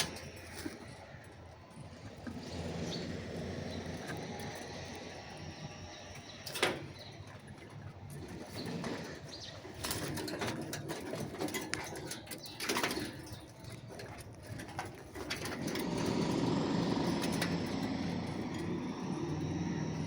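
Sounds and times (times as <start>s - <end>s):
birds calling softly: 0.0s - 20.0s.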